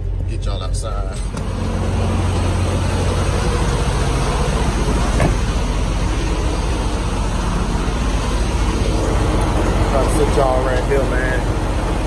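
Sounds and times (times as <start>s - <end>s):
trucks idling: 0.0s - 12.0s.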